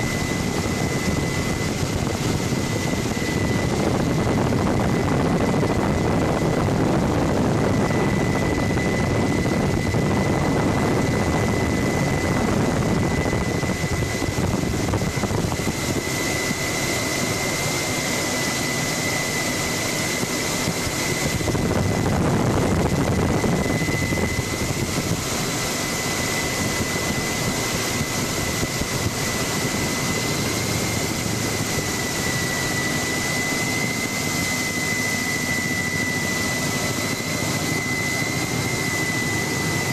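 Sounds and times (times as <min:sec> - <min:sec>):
constant high whine: 0:00.0 - 0:39.9
helicopter rotor and engine: 0:00.0 - 0:39.9.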